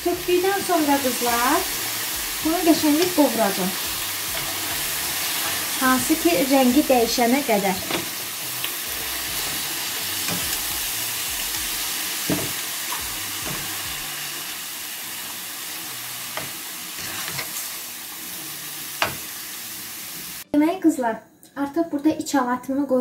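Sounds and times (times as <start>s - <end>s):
meat sizzling in frying pan: 0.0s - 20.4s.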